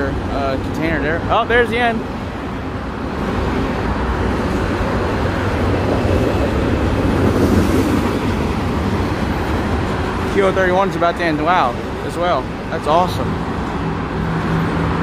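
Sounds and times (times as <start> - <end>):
freight train wheels on rail: 0.0 - 15.0.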